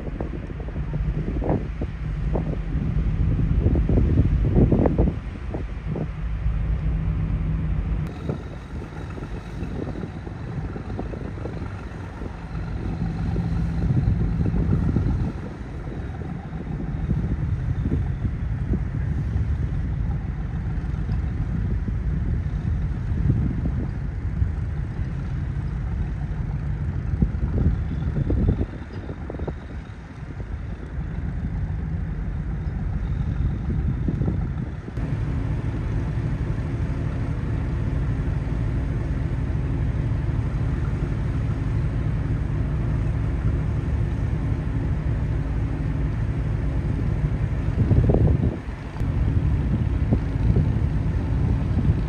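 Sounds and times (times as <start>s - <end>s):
boat engine running: 0.0s - 52.0s
wind noise on microphone: 0.0s - 52.0s.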